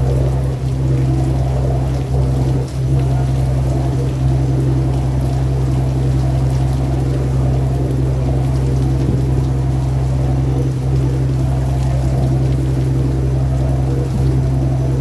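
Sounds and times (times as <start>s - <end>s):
boat engine droning: 0.0s - 15.0s
water washing: 0.0s - 15.0s.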